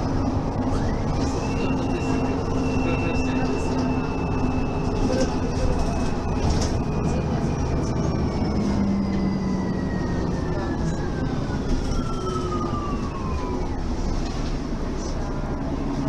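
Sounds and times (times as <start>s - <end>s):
bus drivetrain rumble and whine: 0.0s - 16.0s.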